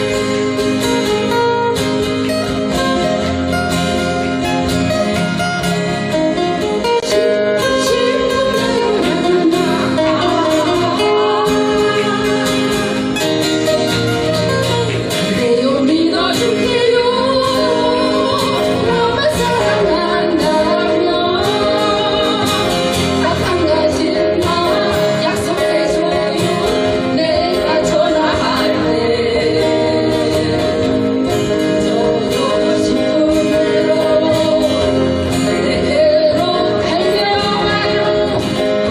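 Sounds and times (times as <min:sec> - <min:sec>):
live guitar band music: 0:00.0 - 0:38.9.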